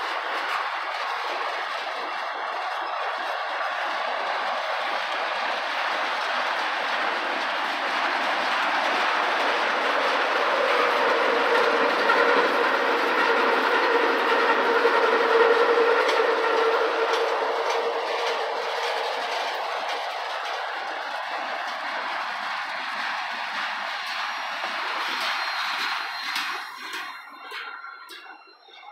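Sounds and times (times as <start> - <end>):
steady wheel squeal: 0.0 - 28.9
steel wheels rumbling and clacking: 0.0 - 28.9.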